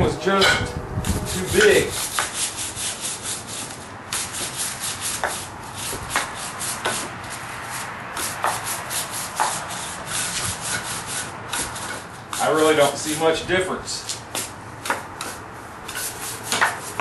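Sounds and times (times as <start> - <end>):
brush scrubbing metal: 0.3 - 13.4, 15.2 - 17.0.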